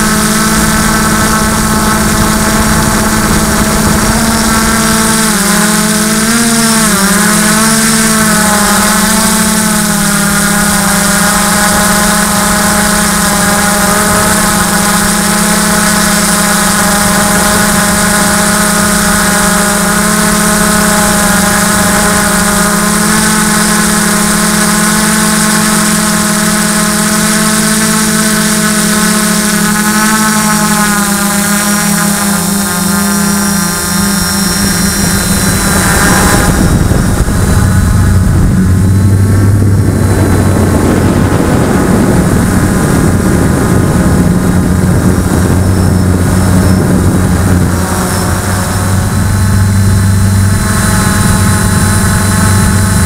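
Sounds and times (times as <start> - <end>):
rush of air noise: 0.0 - 28.2, 30.5 - 53.0
drone motors whining: 0.0 - 53.0.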